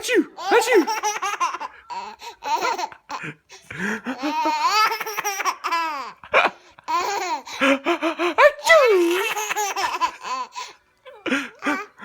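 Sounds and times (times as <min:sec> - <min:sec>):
baby laughing: 0:00.4 - 0:03.4, 0:04.1 - 0:12.0.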